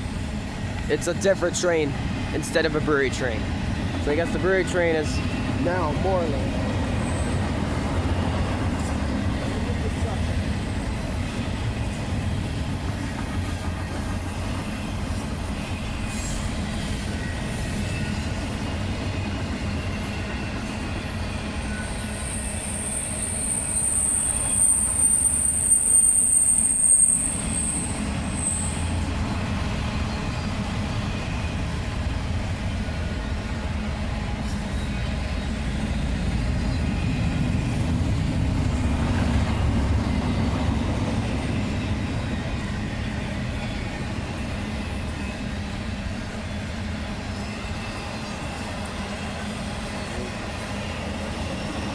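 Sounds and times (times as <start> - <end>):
freight train rumbling: 0.0 - 51.9
wheels squealing on rails: 0.0 - 51.9.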